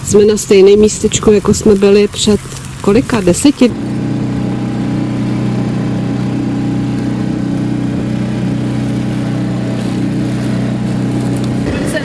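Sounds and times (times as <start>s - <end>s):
small engine humming: 2.1s - 12.0s.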